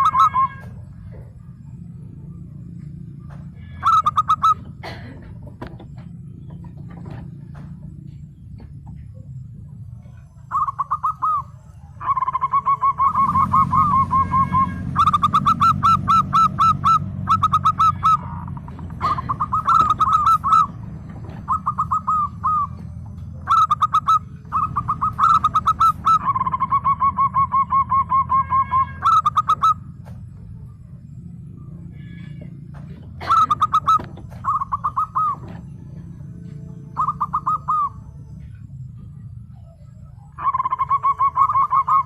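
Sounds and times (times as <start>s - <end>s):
dove cooing: 0.0s - 9.1s, 9.8s - 30.6s, 31.7s - 42.0s
low hum: 0.0s - 42.0s.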